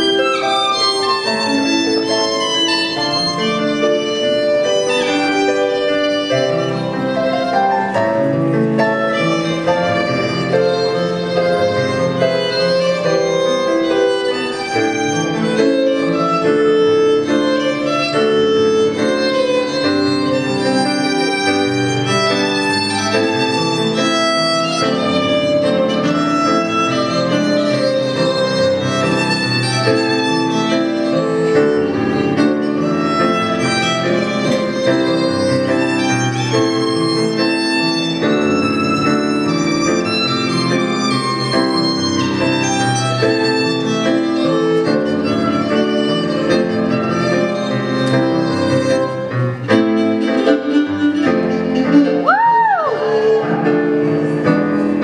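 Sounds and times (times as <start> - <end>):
electric keyboard accompaniment: 0.0 - 55.0
violin melody: 0.0 - 55.0.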